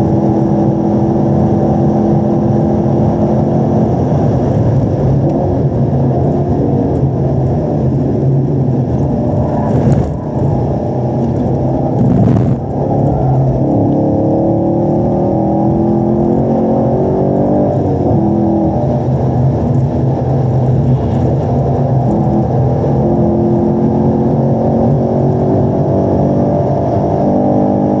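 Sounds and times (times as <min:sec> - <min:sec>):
muffled car engine revving: 0:00.0 - 0:28.0.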